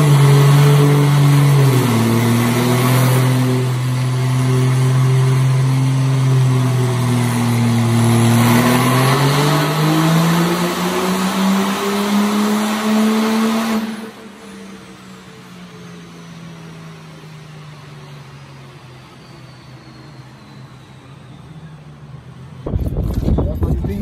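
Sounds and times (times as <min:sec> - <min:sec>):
diesel engine revving on dyno: 0:00.0 - 0:24.0.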